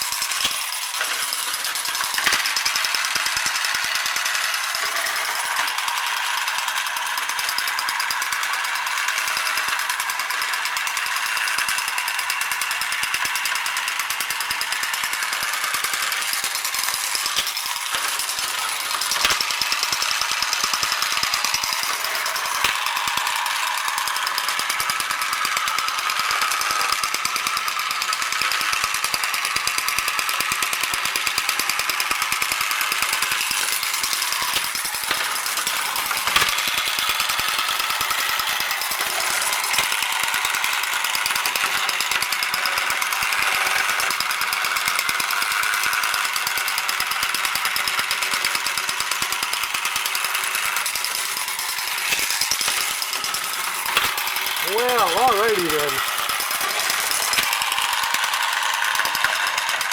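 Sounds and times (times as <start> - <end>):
toy train motor buzzing rattle: 0.0 - 59.9.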